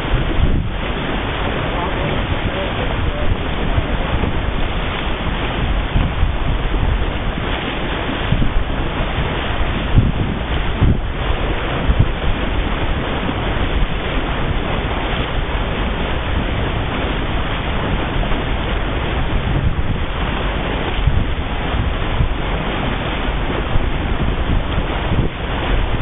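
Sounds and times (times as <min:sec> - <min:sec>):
water rushing along hull: 0:00.0 - 0:26.0
wind buffeting microphone: 0:00.0 - 0:26.0.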